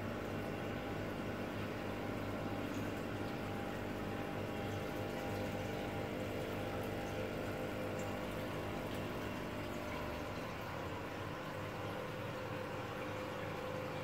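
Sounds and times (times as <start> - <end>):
aquarium pump humming: 0.0 - 14.0
water bubbling and trickling: 0.0 - 14.0.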